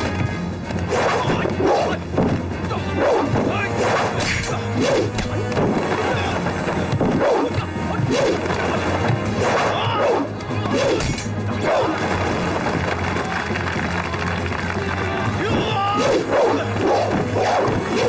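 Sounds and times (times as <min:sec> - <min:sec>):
action background music: 0:00.0 - 0:18.0.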